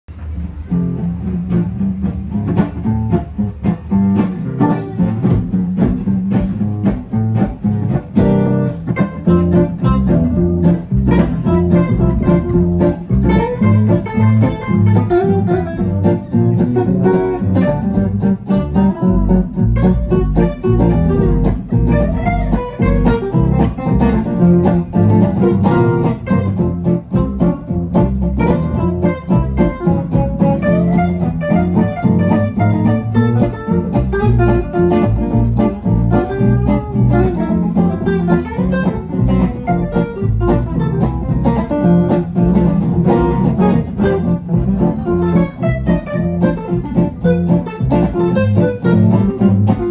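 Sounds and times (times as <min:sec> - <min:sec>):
double bass: 0:00.0 - 0:49.9
acoustic guitars strumming: 0:00.1 - 0:49.9.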